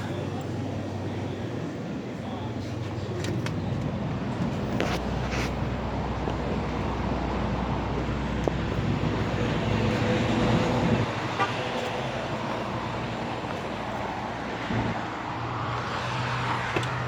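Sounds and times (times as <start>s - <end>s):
motor vehicle humming: 0.0s - 17.0s.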